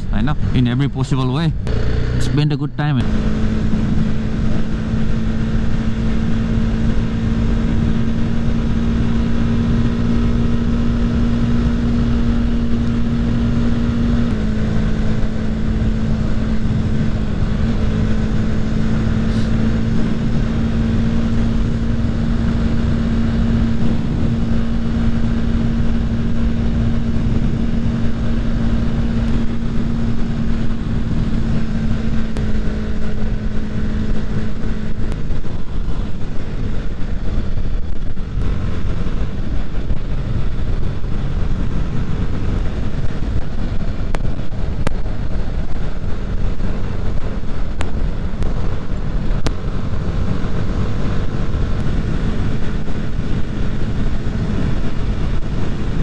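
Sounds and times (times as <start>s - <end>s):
motorcycle engine cruising: 0.0s - 56.0s
wind noise on microphone: 3.0s - 56.0s.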